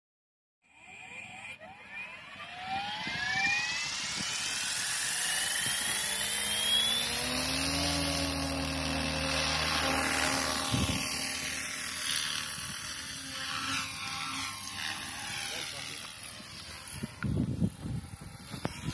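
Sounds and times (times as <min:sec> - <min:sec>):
rc helicopter motor whine: 0:00.6 - 0:18.9.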